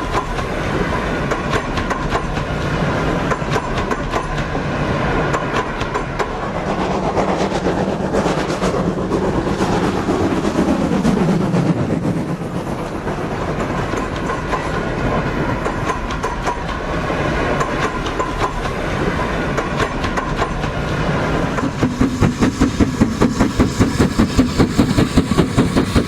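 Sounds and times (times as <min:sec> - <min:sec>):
wheels clicking over rail joints: 0:00.0 - 0:06.7, 0:07.6 - 0:26.0.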